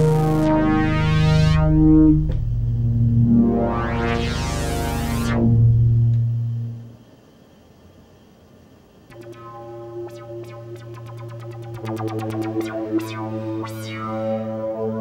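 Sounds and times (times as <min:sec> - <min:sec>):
synthesizer pad chord: 0:00.0 - 0:07.0, 0:09.1 - 0:15.0.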